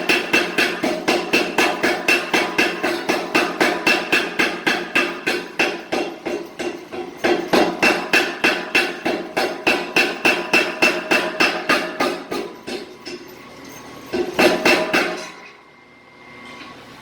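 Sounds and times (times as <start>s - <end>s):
hammer striking steel on anvil: 0.0s - 13.4s, 14.1s - 15.6s.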